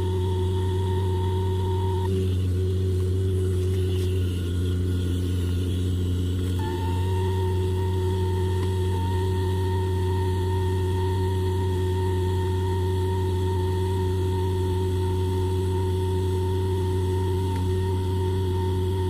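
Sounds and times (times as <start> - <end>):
constant low hum: 0.0 - 19.0
welding arc buzz and whine: 0.0 - 19.0.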